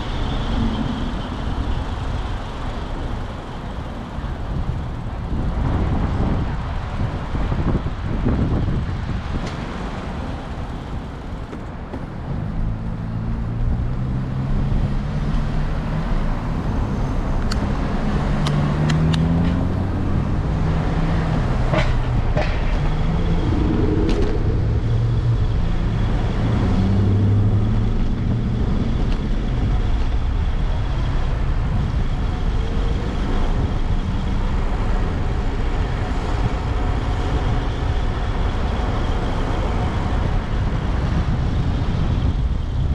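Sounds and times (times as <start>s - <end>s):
car engines passing: 0.0s - 42.9s
road rumble: 0.0s - 42.9s.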